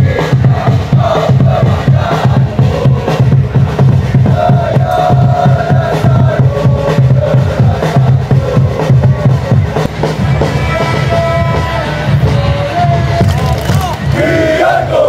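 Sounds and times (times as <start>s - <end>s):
crowd chanting: 0.0s - 15.0s
loud drum beat: 0.0s - 15.0s.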